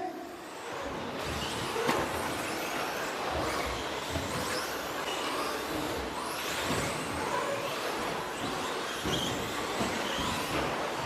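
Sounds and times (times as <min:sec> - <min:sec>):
rc truck motors whining: 0:00.4 - 0:11.0.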